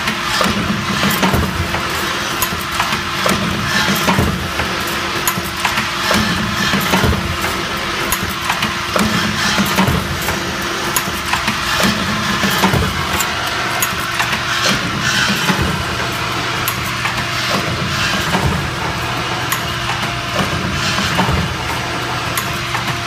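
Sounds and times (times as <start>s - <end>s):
machine motor hum: 0.0s - 23.0s.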